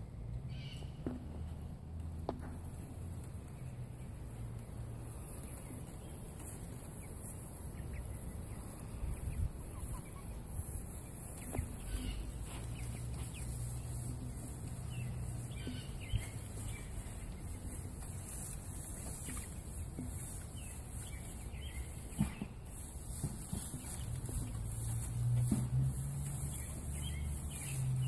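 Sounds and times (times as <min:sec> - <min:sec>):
chickens clucking: 0:02.3 - 0:28.0.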